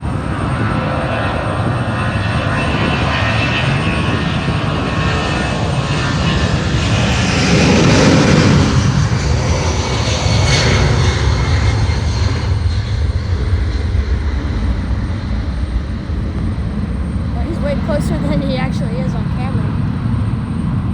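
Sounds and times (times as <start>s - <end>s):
airliner engines rushing: 0.0s - 20.9s.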